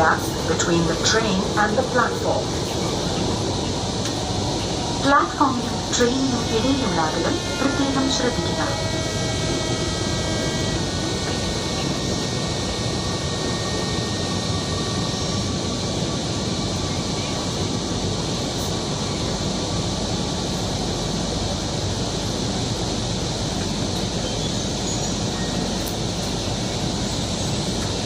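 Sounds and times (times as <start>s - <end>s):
train interior rushing hum: 0.0s - 28.0s.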